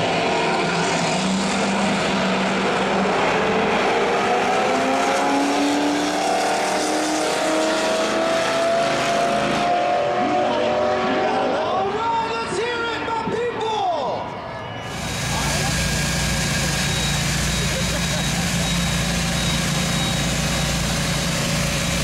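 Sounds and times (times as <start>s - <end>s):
drag racing engines at full throttle: 0.0s - 13.4s, 14.5s - 22.0s.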